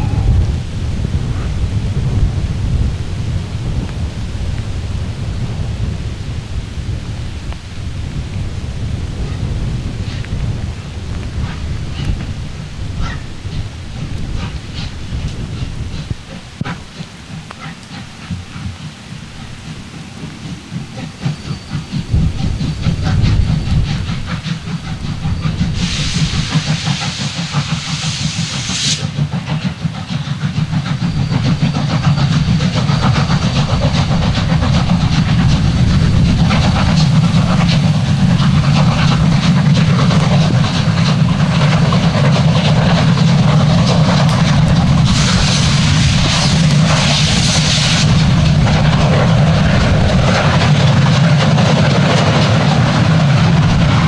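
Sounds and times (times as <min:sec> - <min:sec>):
steam locomotive rumbling: 0:00.0 - 0:54.0
hissing steam burst: 0:08.8 - 0:54.0.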